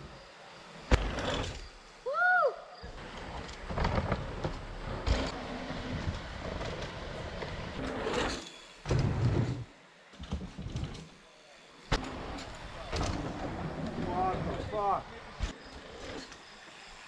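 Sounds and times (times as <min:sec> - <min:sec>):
bike tyres rolling on dirt: 0:00.9 - 0:01.8, 0:02.9 - 0:11.2, 0:11.9 - 0:17.0.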